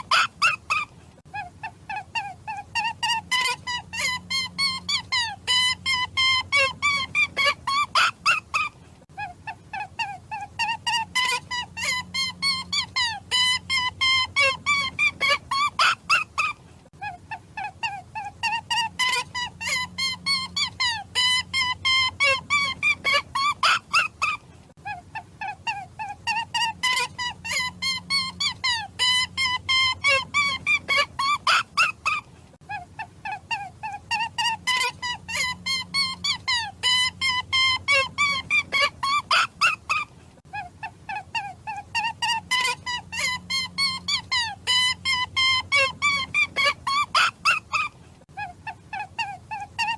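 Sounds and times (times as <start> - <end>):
faint steady hum: 0.0 - 49.9
high-pitched animal calls: 0.0 - 49.9.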